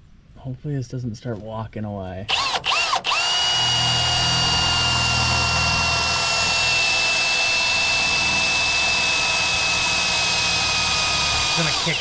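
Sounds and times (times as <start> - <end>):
cordless drill boring: 2.3 - 12.0.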